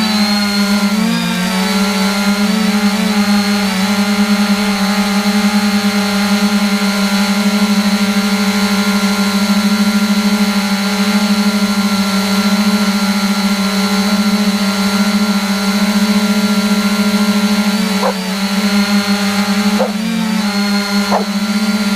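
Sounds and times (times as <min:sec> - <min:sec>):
quadcopter motors buzzing: 0:00.0 - 0:21.9.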